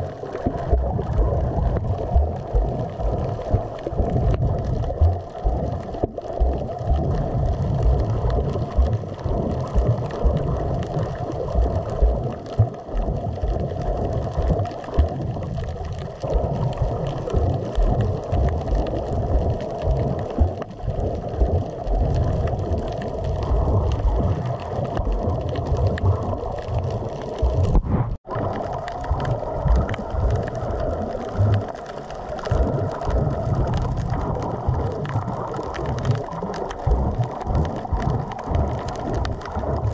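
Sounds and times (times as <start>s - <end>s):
muffled underwater water rumble: 0.0s - 39.9s.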